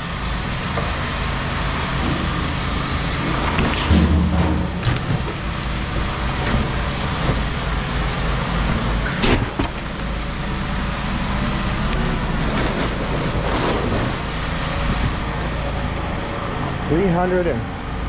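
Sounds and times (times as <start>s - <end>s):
vehicle engine running: 0.0s - 17.5s.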